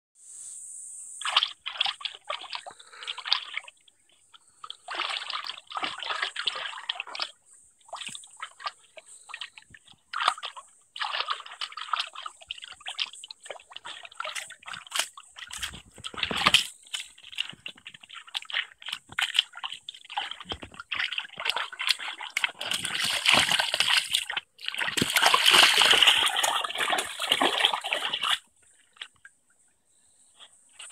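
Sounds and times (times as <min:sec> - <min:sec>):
dog splashing in water: 0:01.2 - 0:03.7, 0:04.6 - 0:29.2.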